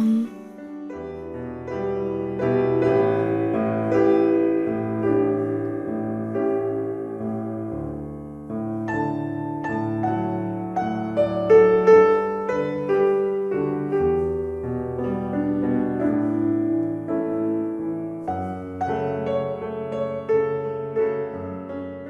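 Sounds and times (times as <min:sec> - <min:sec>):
slow gentle piano music: 0:00.0 - 0:22.0.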